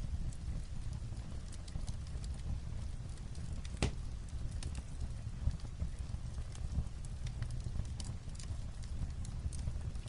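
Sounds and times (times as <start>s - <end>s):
fireplace crackling and popping: 0.0s - 10.0s
light rain on a roof: 0.0s - 10.0s.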